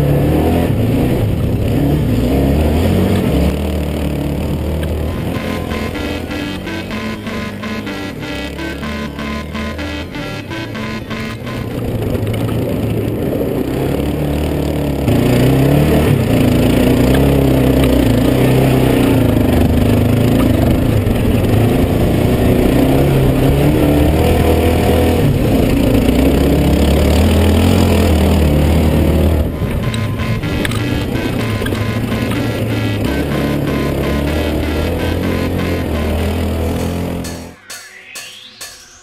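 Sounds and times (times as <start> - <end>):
quad engine revving: 0.0 - 37.5
background music: 4.8 - 13.1, 15.2 - 39.0.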